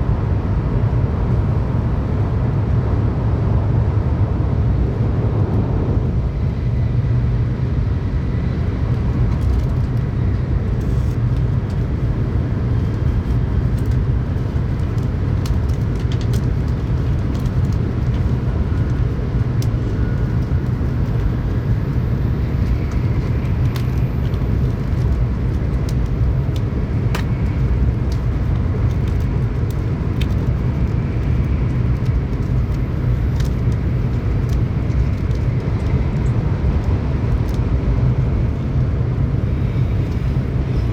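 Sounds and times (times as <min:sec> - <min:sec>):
train rumble inside passenger car: 0:00.0 - 0:40.9.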